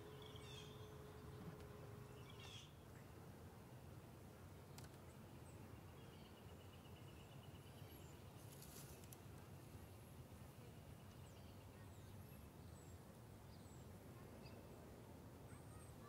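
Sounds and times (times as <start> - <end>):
faint outdoor hum: 0.0 - 16.0.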